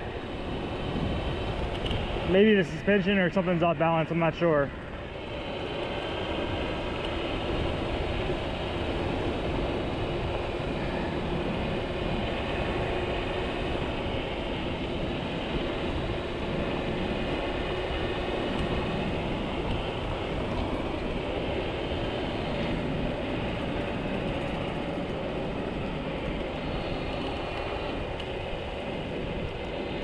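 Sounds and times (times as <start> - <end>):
wind rush: 0.0 - 30.0.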